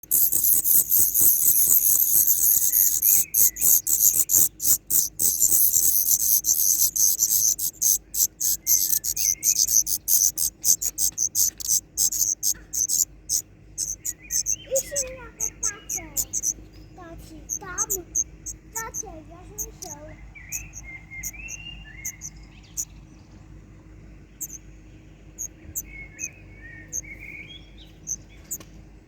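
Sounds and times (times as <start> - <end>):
soft gliding chirps: 0.0 - 23.4
small birds cheeping: 0.0 - 29.0.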